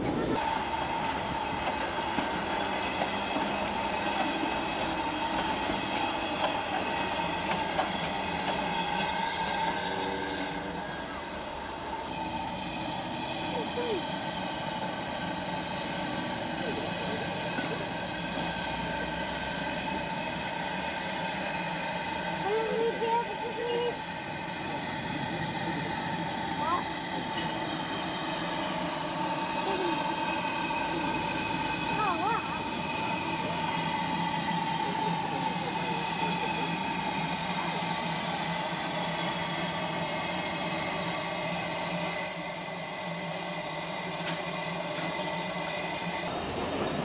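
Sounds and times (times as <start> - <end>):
diesel locomotive idling: 0.0 - 47.0
steam locomotive hiss: 0.0 - 47.0.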